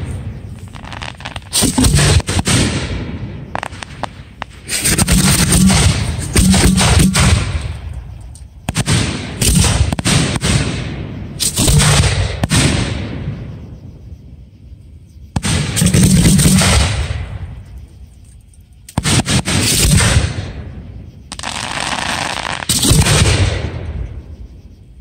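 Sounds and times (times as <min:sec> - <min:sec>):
fireworks bangs and crackles: 0:00.0 - 0:13.8, 0:15.3 - 0:17.7, 0:18.9 - 0:24.4
fireworks rumble: 0:00.0 - 0:25.0.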